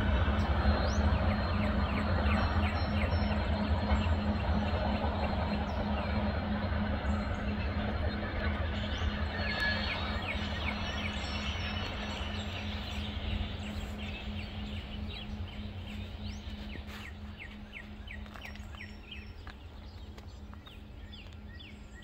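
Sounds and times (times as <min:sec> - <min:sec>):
birds chirping: 0:00.0 - 0:22.0
freight train rumble: 0:00.0 - 0:22.0
steady low hum: 0:00.0 - 0:22.0.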